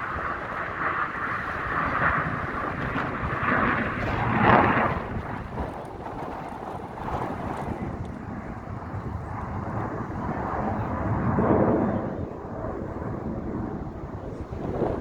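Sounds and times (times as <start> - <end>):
airplane passing overhead: 0.0 - 15.0
wind on microphone: 0.0 - 15.0.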